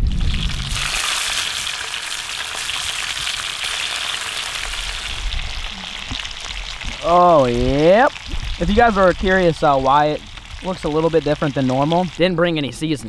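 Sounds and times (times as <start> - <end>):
fish sizzling in hot oil: 0.0 - 12.4.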